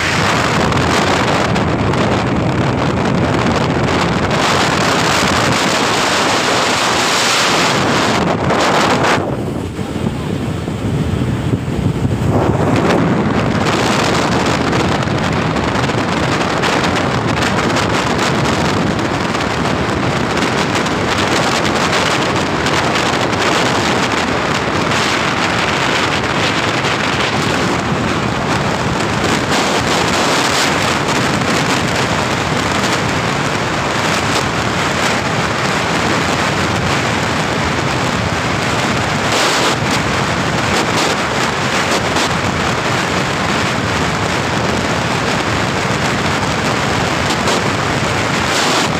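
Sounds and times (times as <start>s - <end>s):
truck road and tyre noise: 0.0s - 48.9s
wind buffeting microphone: 0.0s - 48.9s.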